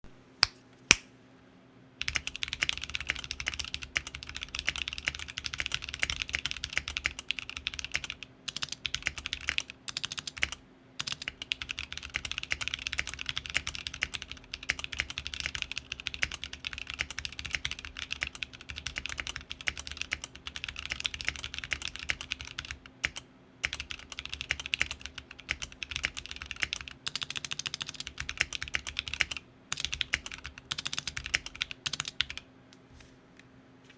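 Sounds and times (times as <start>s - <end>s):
fast mechanical keyboard typing: 2.0s - 32.4s.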